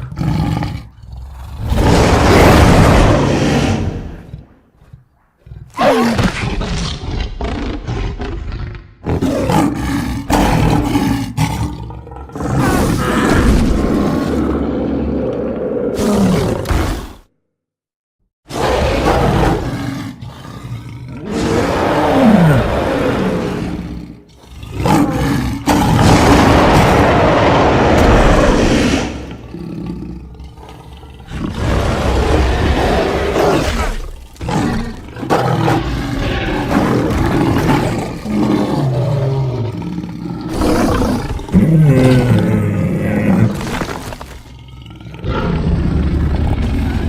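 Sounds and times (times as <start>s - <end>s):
big cat roaring and growling: 0.0s - 17.3s, 18.5s - 47.0s.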